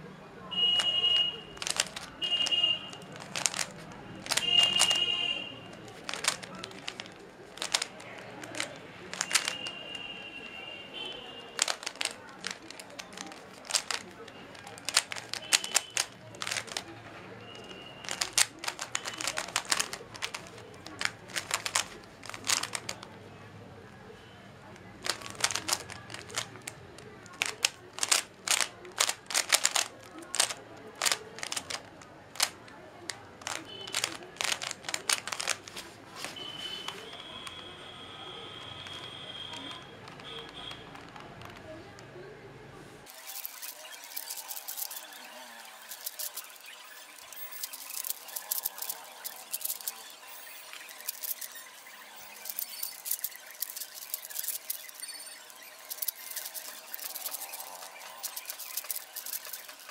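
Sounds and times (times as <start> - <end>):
puzzle cube clacking: 0.6 - 23.3, 24.6 - 37.8, 38.6 - 42.2, 43.0 - 59.9.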